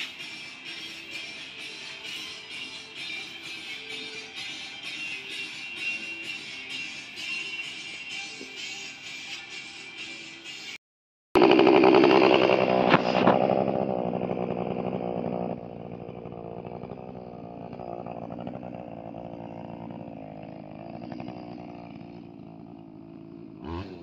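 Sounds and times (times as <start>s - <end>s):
chainsaw engine running: 0.0s - 8.6s, 11.4s - 24.0s.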